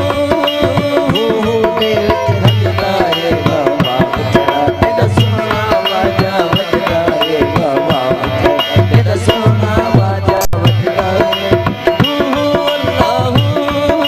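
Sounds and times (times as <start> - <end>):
hand drum rhythm: 0.0 - 14.0.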